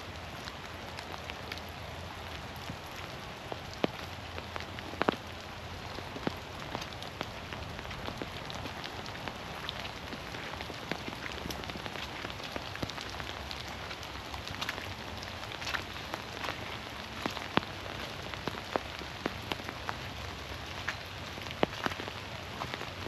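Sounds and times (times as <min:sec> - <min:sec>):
steady rain patter: 0:00.0 - 0:23.0.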